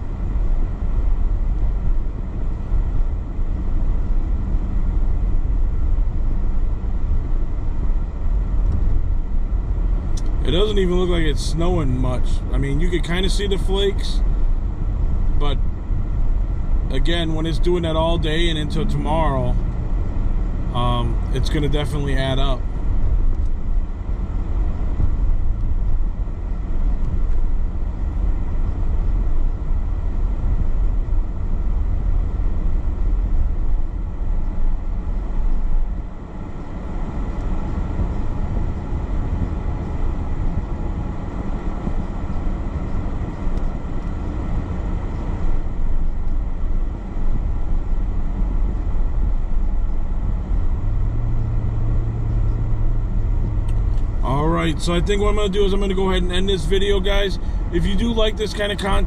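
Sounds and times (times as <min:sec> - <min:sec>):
car engine and tyre rumble: 0:00.0 - 0:59.0
steady low hum: 0:00.0 - 0:59.0.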